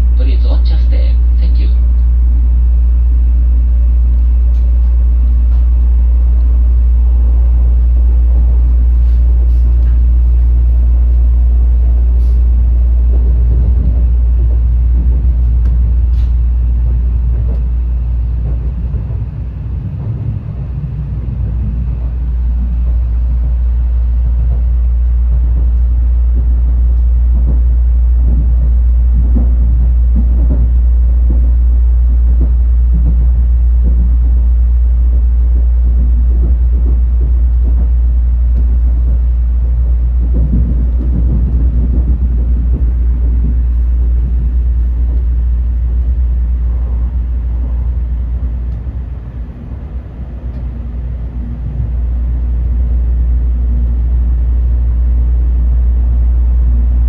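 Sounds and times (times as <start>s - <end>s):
train running rumble inside car: 0.0s - 57.0s.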